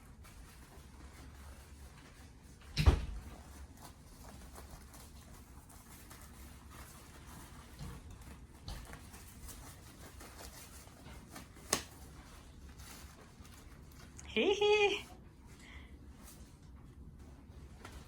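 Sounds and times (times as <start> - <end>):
faint rustling and handling: 0.0 - 18.0.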